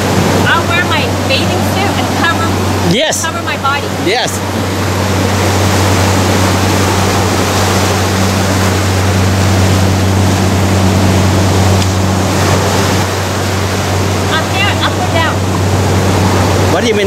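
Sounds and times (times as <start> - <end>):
ocean surf breaking: 0.0 - 17.0
steady low hum: 0.0 - 17.0.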